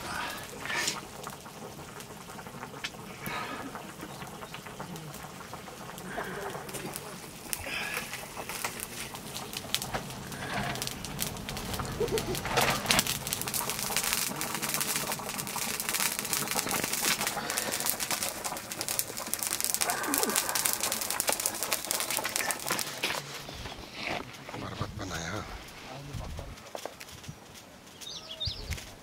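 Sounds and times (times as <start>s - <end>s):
curry bubbling and popping: 0.0s - 29.0s
wood fire crackling: 0.0s - 29.0s.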